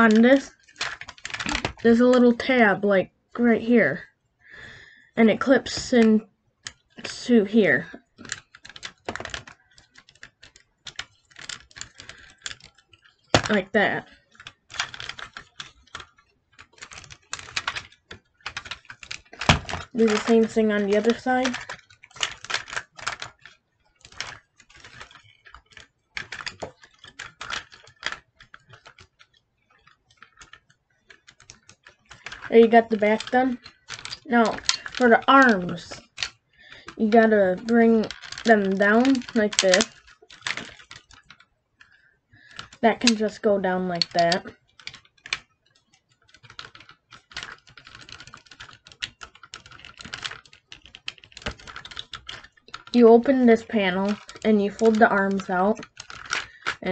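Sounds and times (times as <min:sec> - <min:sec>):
plastic toy parts clicking and rattling: 0:00.0 - 0:04.0, 0:05.4 - 0:56.9.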